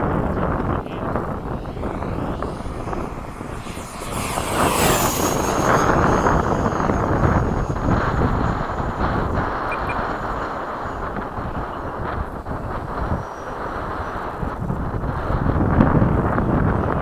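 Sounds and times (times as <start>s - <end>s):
model jet fan whine: 0.0s - 16.9s
wind buffeting microphone: 0.0s - 17.0s.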